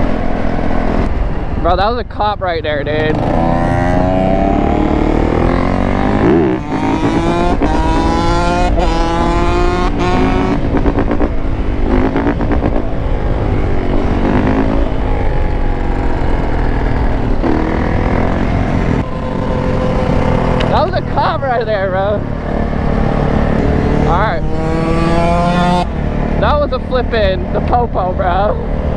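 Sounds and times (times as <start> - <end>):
dirt bike engine accelerating: 0.0 - 28.9.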